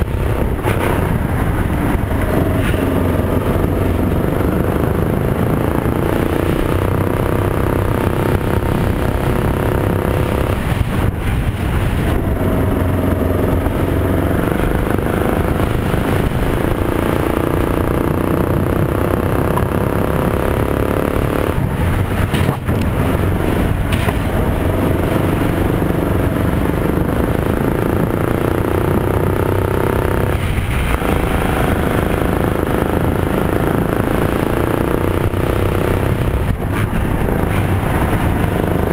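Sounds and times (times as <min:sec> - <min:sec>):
go-kart engine accelerating: 0:00.0 - 0:38.9.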